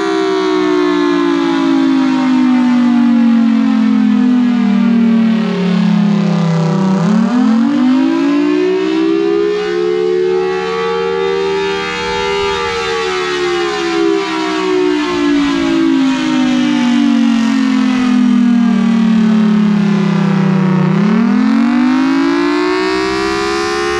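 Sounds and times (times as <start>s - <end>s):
tornado siren wailing: 0.0s - 23.9s.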